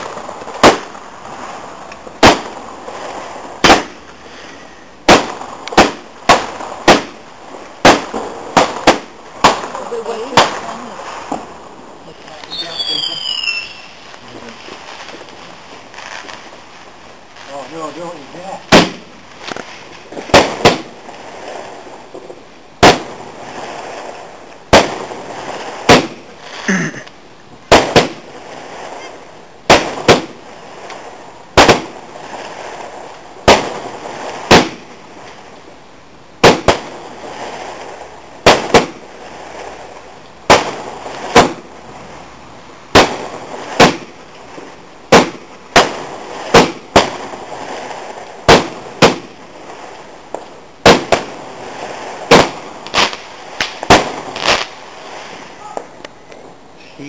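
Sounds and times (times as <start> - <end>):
fireworks bangs with echo: 0.0 - 26.9, 27.5 - 35.7, 36.4 - 57.0.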